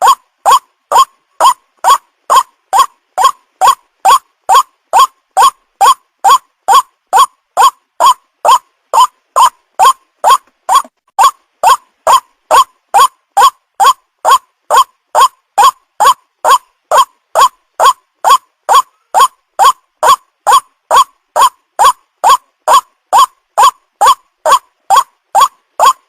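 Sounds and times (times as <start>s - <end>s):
recorded bird call: 0.0s - 26.0s.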